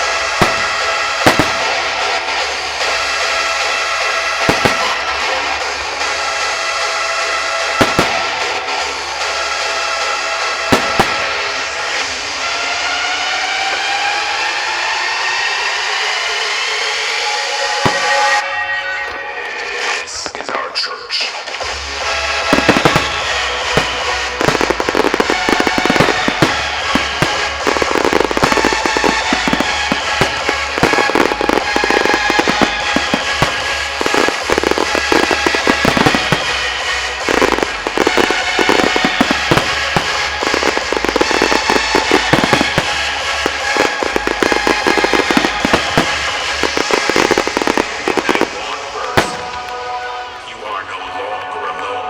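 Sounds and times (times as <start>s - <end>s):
fireworks crackling and popping: 0.0s - 52.0s
music playing: 0.0s - 52.0s.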